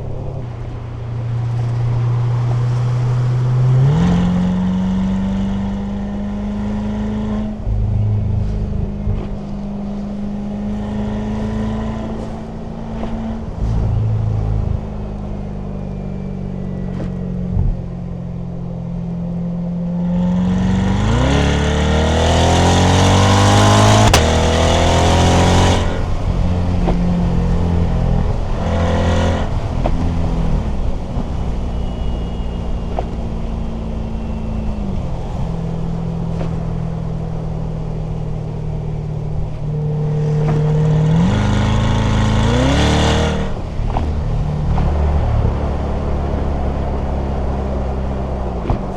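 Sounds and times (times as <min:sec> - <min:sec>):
car engine and exhaust revving: 0:00.0 - 0:48.9.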